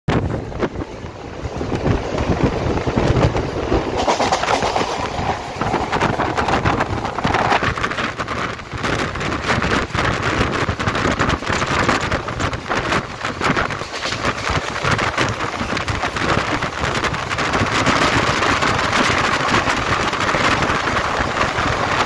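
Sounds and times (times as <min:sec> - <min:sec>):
electric train rumbling: 0:00.1 - 0:22.0
train rattling and clattering: 0:00.1 - 0:22.0.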